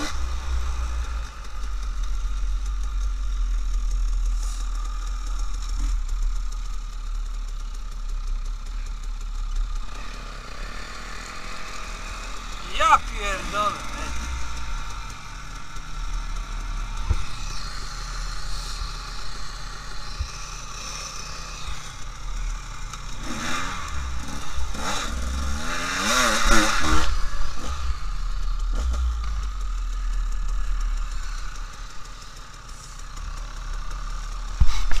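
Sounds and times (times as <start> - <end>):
dirt bike engine revving: 0.0 - 3.2, 9.6 - 35.0
clatter and rattle over rough ground: 0.0 - 12.7, 14.0 - 35.0.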